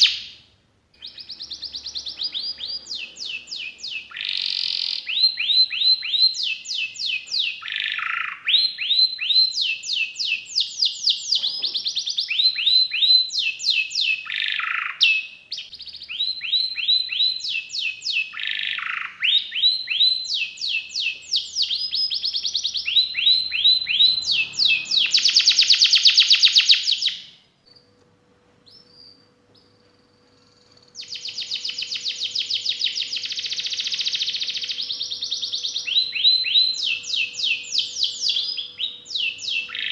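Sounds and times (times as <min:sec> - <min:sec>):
canary singing trills: 0:00.0 - 0:00.4, 0:01.0 - 0:27.9, 0:28.6 - 0:39.9.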